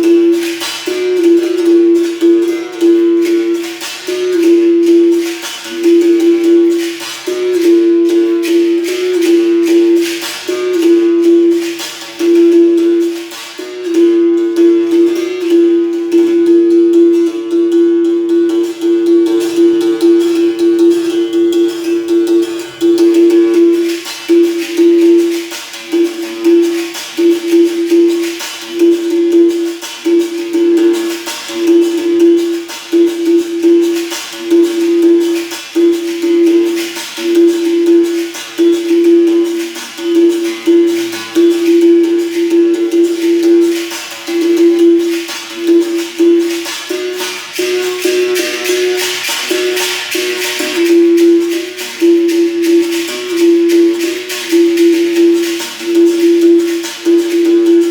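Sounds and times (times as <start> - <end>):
berimbau struck notes: 0.0 - 57.9
shaker rattling: 0.0 - 57.9.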